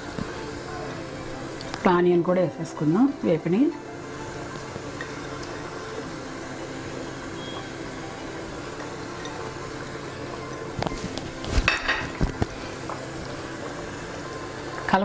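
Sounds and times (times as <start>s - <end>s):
water bubbling in a pot: 0.0s - 15.0s.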